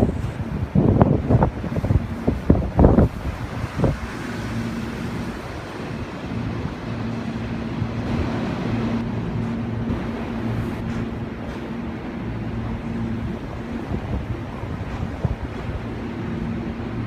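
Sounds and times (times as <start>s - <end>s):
low hum of rail equipment: 0.0s - 17.0s
wind buffeting microphone: 0.0s - 17.0s.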